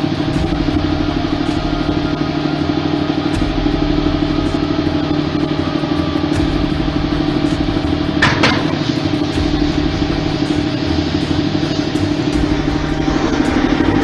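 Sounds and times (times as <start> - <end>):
engine roar: 0.0 - 14.0
low-pitched hum: 0.0 - 14.0.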